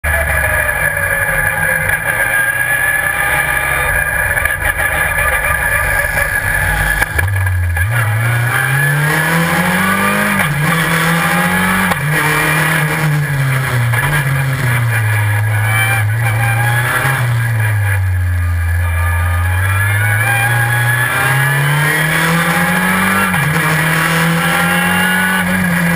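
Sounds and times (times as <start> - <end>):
racing car engine revving: 0.0 - 25.9.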